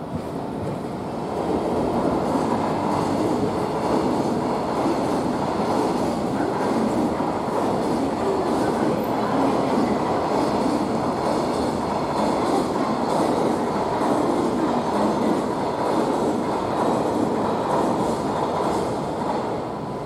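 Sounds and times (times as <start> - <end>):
streetcar wheels rumbling on rail: 0.0 - 20.0.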